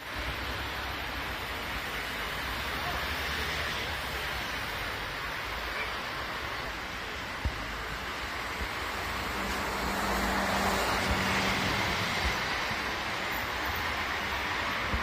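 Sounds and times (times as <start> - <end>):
bus passing by: 0.0 - 15.0
street traffic: 0.0 - 15.0.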